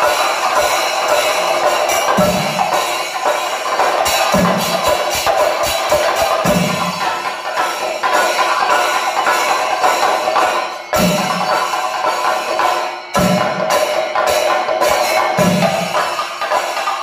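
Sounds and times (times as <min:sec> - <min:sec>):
drums struck with sticks: 0:00.0 - 0:17.0
hand cymbals ringing: 0:00.0 - 0:17.0.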